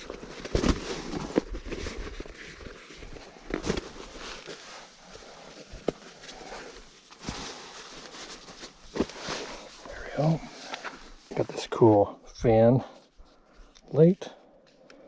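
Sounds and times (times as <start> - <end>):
rustling of camping gear: 0.0 - 15.0.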